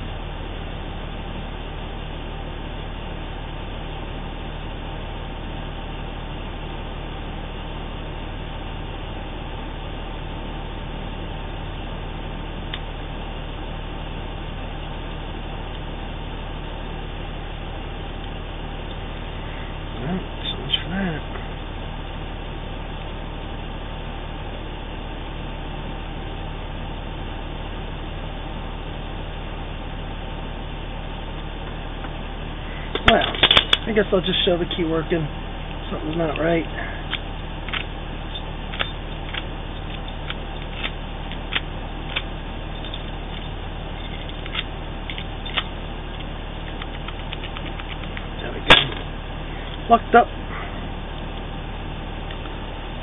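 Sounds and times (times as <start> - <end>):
air conditioning running: 0.0 - 53.0
truck engine idling: 0.0 - 53.0.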